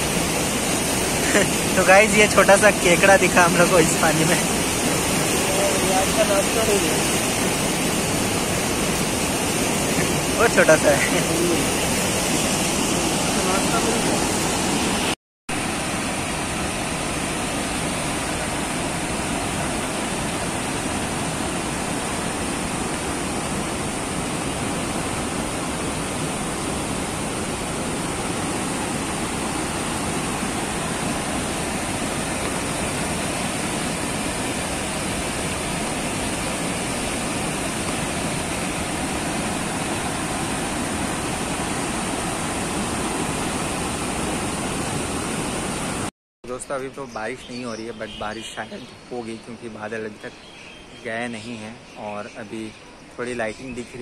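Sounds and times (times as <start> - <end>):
floodwater rushing through rapids: 0.0 - 46.7.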